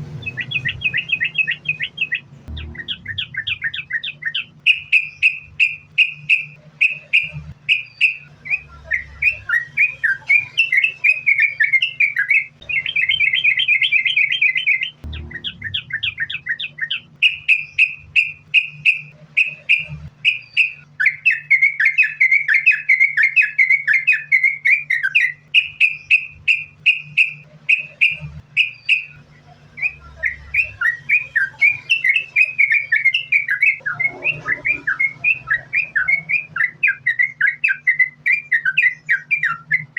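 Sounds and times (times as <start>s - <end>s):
bird singing chattering whistles: 0.1s - 39.9s.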